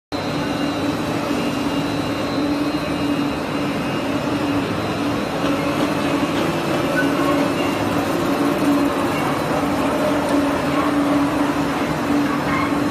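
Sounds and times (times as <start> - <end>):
faint high whine: 0.2 - 12.9.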